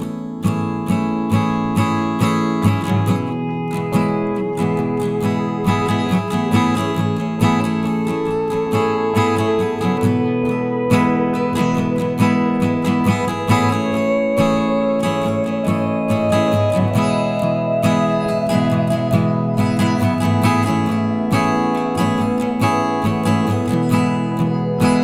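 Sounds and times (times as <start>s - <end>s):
strummed acoustic guitar: 0.0s - 25.0s.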